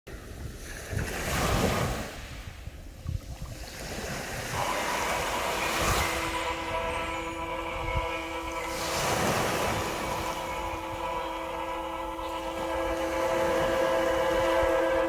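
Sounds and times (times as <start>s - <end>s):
sea waves washing onto beach: 0.1s - 15.0s.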